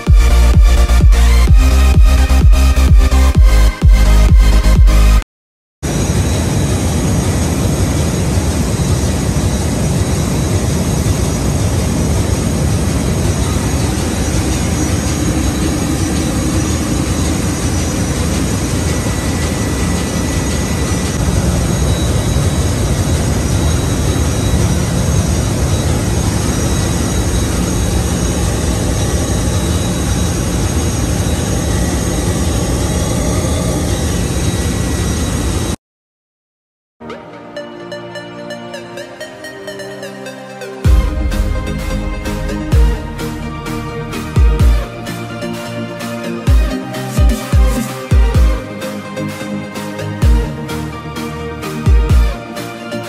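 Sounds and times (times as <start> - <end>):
engine room machinery drone: 5.8 - 35.8, 38.0 - 53.0.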